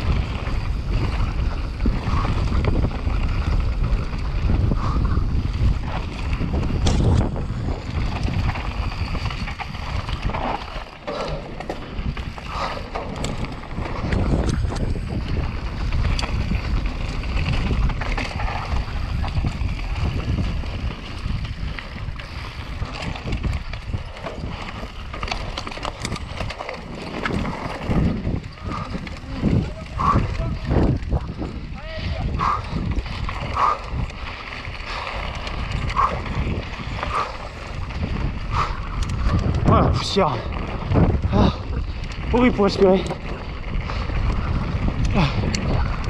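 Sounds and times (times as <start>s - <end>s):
bike clicks and rattles: 0.0s - 46.0s
tyres rumbling over dirt and stones: 0.0s - 46.0s
wind buffeting microphone: 0.0s - 46.0s.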